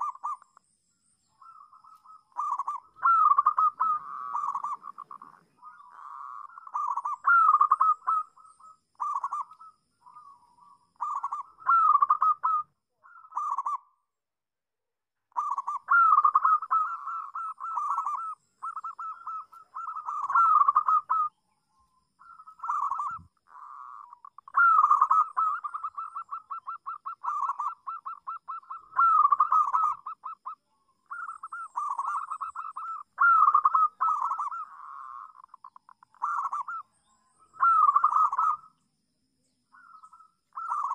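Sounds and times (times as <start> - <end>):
dove cooing: 0.0 - 0.6, 1.3 - 14.0, 15.3 - 21.4, 22.2 - 38.8, 39.7 - 40.9.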